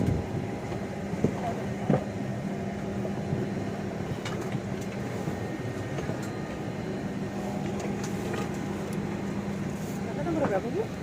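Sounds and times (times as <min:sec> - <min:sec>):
air conditioning hum: 0:00.0 - 0:11.0.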